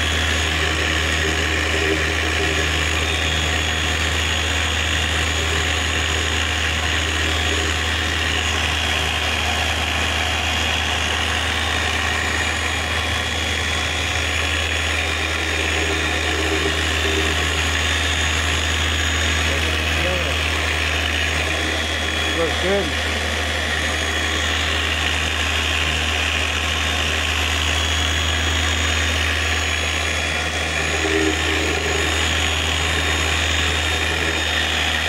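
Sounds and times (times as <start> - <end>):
electric polisher running: 0.0 - 35.0.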